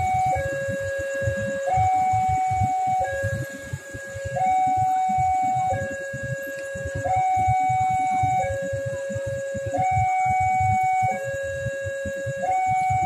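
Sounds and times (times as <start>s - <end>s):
level crossing alarm: 0.0s - 13.0s.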